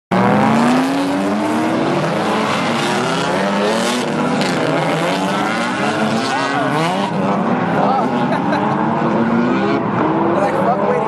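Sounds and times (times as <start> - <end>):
car engines revving: 0.1 - 11.0.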